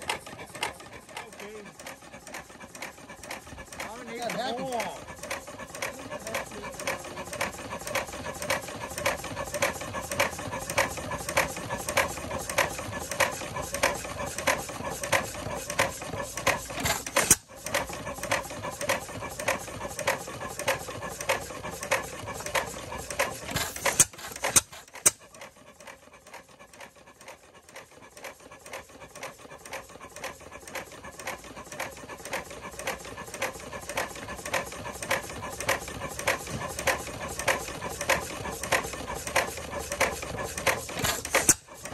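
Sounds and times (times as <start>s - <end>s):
stationary engine clattering: 0.0s - 41.9s.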